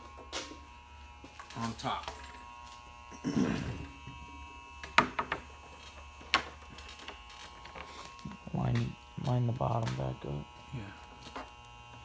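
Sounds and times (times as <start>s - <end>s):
steady electrical buzz: 0.0s - 12.0s.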